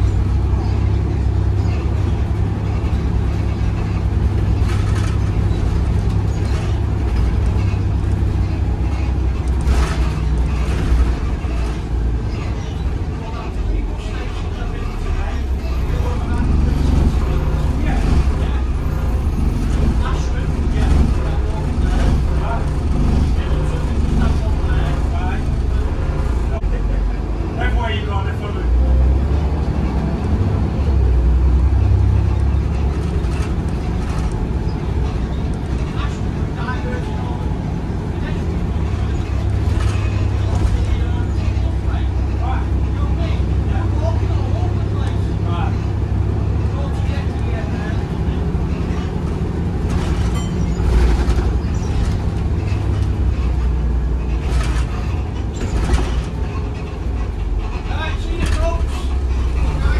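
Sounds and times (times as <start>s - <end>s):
bus body rattling: 0.0s - 59.9s
bus diesel engine drone: 0.0s - 59.9s.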